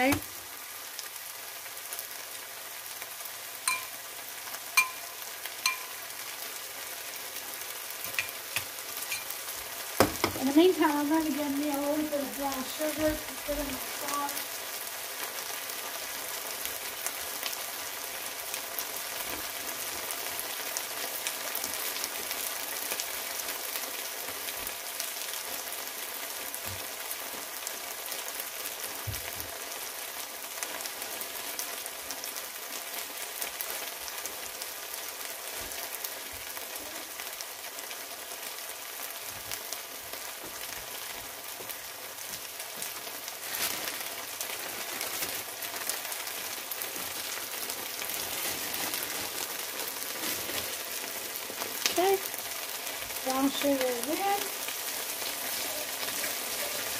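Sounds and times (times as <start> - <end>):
beef searing in hot oil: 0.0 - 56.9.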